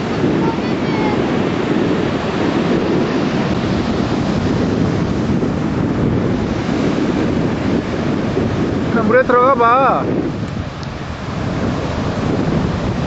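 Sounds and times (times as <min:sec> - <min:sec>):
small waves breaking on sand: 0:00.0 - 0:13.0
wind buffeting microphone: 0:00.0 - 0:13.0.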